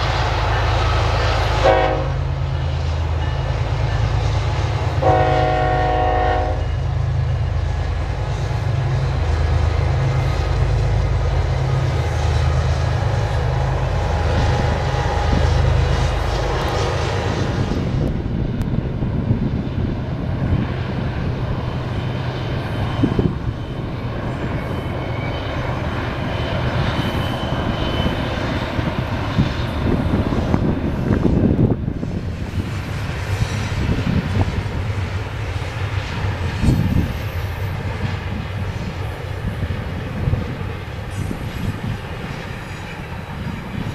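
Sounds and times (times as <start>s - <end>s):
locomotive engine drone: 0.0s - 43.9s.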